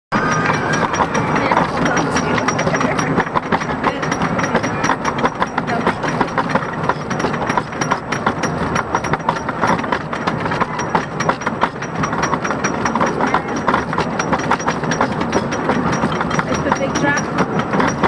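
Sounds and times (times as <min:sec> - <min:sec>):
lift chain clacking and rattling: 0:00.1 - 0:18.0.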